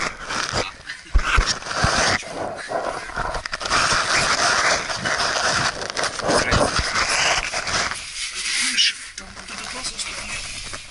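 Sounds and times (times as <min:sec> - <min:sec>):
clothing scraping against rock: 0:00.0 - 0:10.9.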